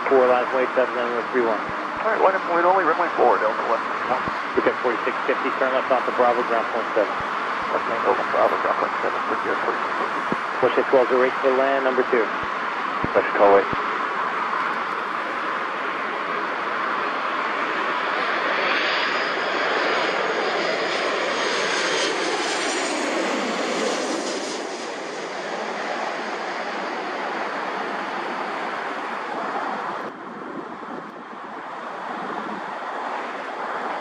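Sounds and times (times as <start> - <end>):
jet airliner passing low: 0.0 - 34.0.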